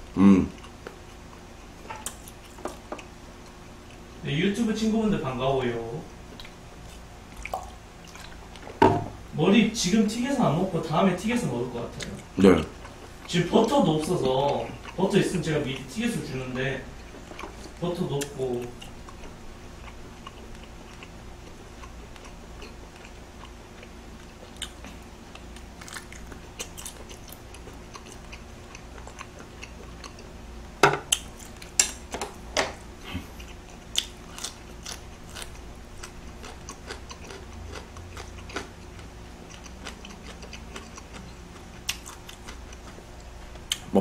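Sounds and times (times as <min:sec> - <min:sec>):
chewing squid: 0:00.5 - 0:04.2, 0:06.0 - 0:08.8, 0:11.9 - 0:30.5, 0:31.1 - 0:43.9.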